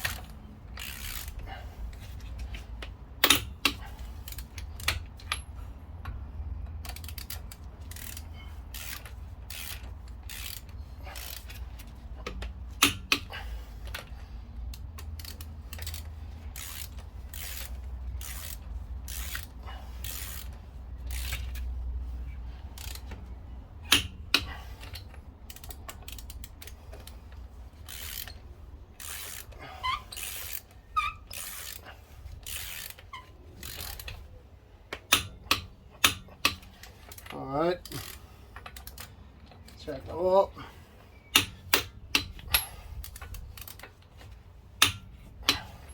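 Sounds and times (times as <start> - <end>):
ratchet wrench clicking: 0.0 - 22.0, 22.6 - 31.8, 32.4 - 34.3, 34.9 - 39.8, 41.3 - 45.9.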